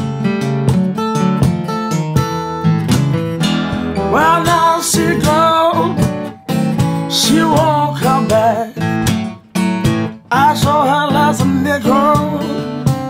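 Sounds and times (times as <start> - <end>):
acoustic guitars playing blues: 0.0 - 13.0.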